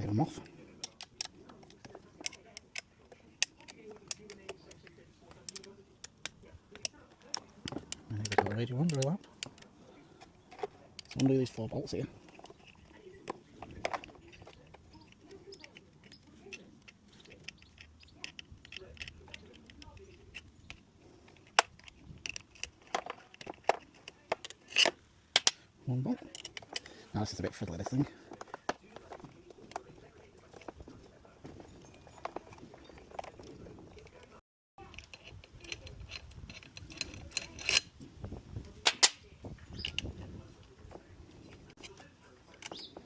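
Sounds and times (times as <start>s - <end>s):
hand tools clicking on plastic: 0.0s - 37.9s.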